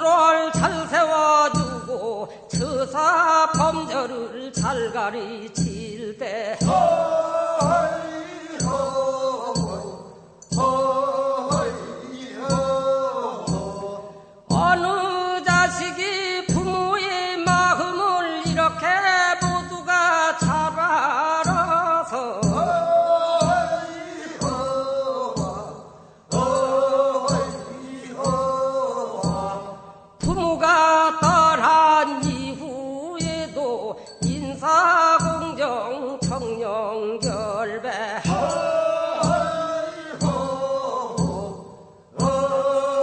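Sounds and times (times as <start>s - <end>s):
steady struck beat: 0.6s - 3.0s, 3.6s - 5.0s, 5.6s - 31.6s, 32.2s - 43.0s.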